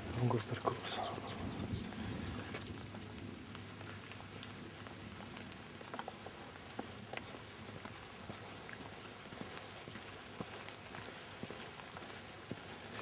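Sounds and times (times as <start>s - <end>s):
light rain on leaves: 0.0s - 13.0s
raindrops ticking: 0.0s - 13.0s.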